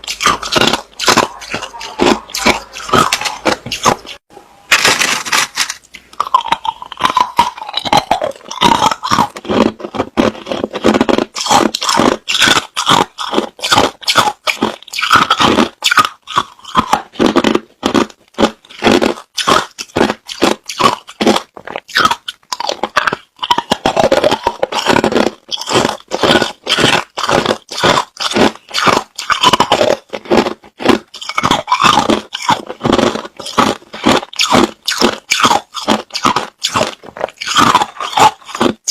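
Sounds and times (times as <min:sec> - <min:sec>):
crunching ice being chewed: 0:00.0 - 0:38.9.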